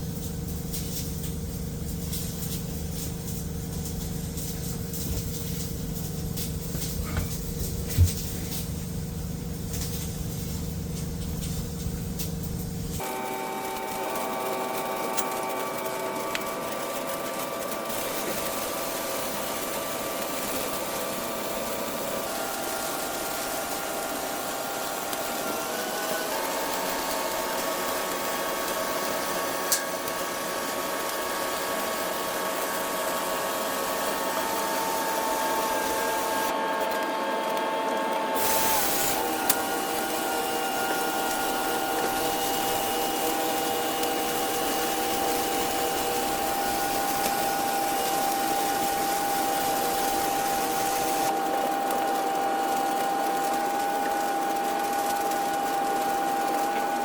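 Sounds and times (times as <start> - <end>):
welding machine whine and hiss: 0.0 - 57.0.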